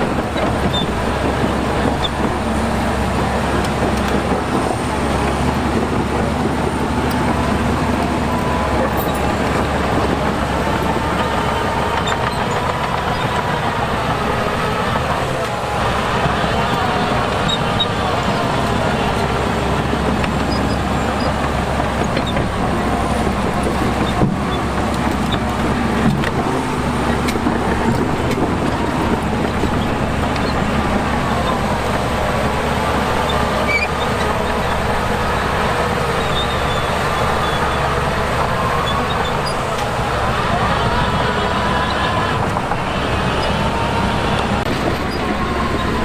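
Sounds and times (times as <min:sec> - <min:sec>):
heavy diesel engines running: 0:00.0 - 0:46.0.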